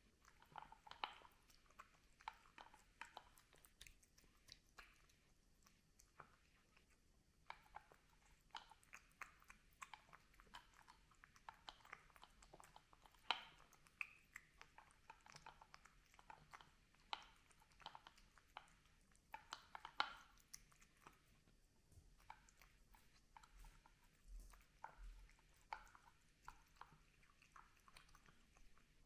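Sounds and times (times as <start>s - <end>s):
cat chewing and crunching: 0.0s - 29.0s.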